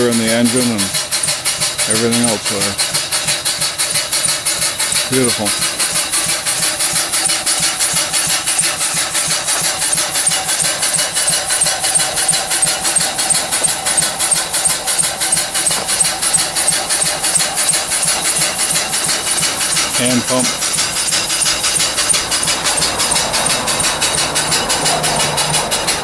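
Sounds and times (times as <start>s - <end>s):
steam engine exhaust beating: 0.0s - 26.0s.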